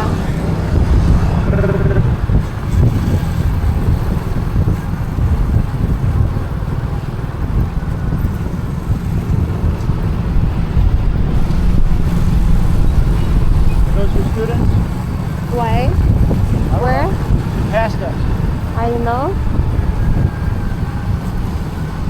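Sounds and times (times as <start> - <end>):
car road and engine rumble: 0.0 - 22.0
wind buffeting microphone: 0.0 - 22.0.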